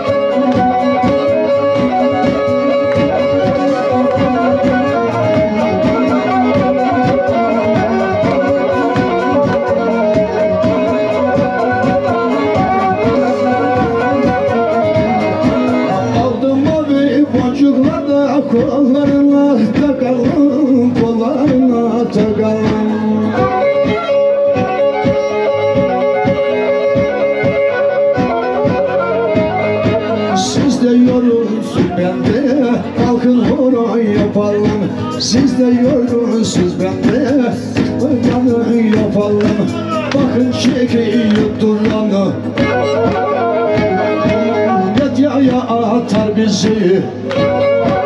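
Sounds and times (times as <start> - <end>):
bowed fiddle folk tune: 0.0 - 48.0
man singing: 0.0 - 48.0
steady beat: 0.0 - 48.0.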